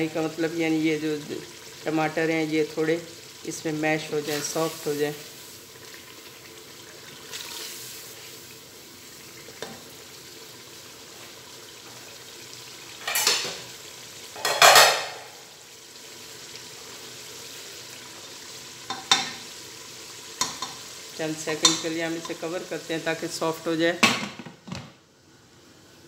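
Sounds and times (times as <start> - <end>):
food sizzling in oil: 0.0 - 24.1.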